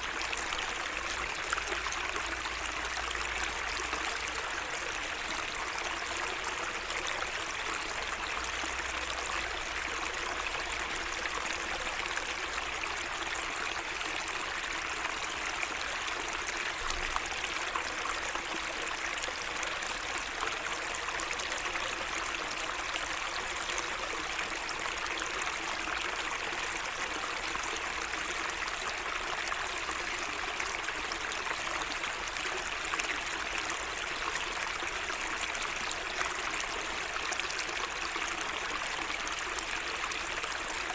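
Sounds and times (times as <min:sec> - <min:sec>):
water babbling: 0:00.0 - 0:40.9.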